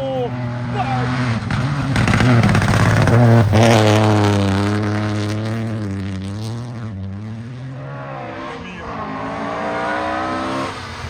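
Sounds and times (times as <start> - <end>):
rally car engine under load: 0.0 - 11.0.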